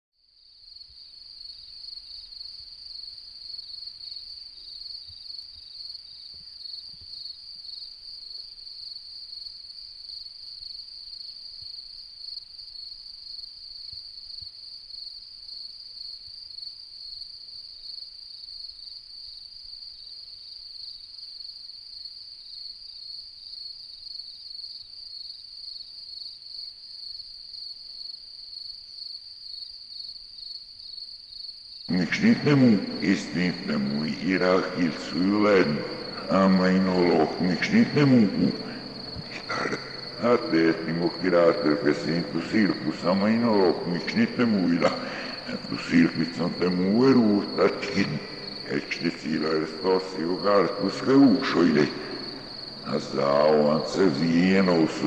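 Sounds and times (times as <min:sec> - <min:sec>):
crickets chirping: 0:00.3 - 0:55.0.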